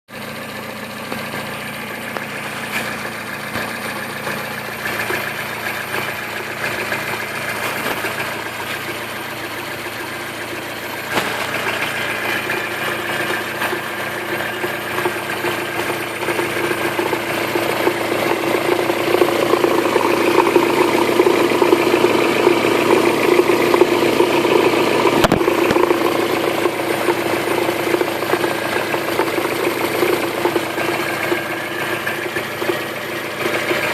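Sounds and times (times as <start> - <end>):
car engine running: 0.1 - 33.9
rapid metallic engine knock: 0.1 - 33.9.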